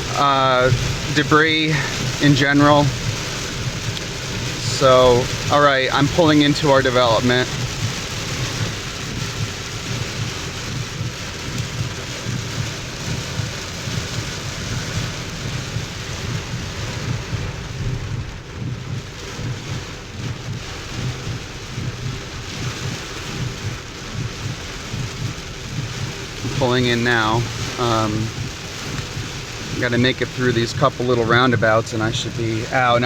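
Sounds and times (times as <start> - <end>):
heavy rain on car roof: 0.0 - 33.0
low rumble: 0.0 - 33.0.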